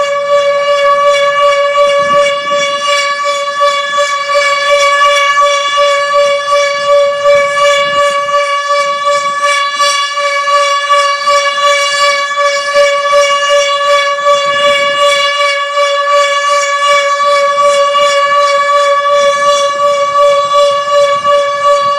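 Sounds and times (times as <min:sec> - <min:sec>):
outdoor warning siren: 0:00.0 - 0:21.9.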